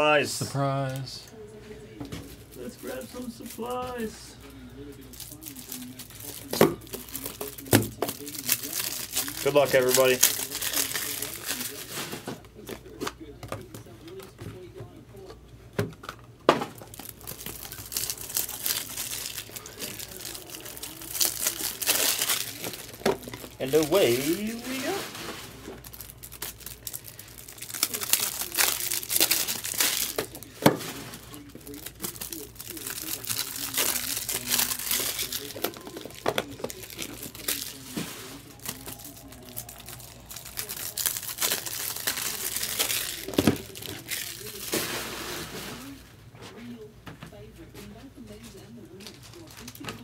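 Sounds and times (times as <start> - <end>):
plastic wrapping crinkling and tearing: 2.5 - 4.2, 4.8 - 13.0, 16.8 - 46.0, 48.9 - 50.0.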